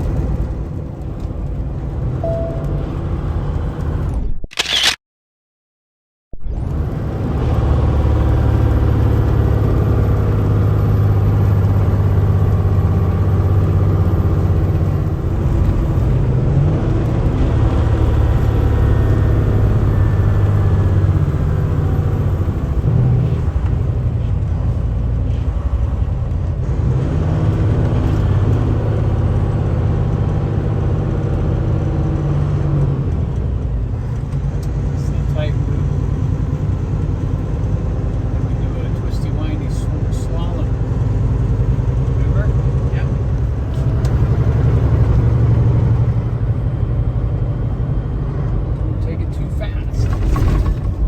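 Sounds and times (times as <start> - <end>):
road and tyre noise: 0.0 - 5.0, 6.3 - 51.0
truck engine drone: 0.0 - 5.0, 6.3 - 51.0.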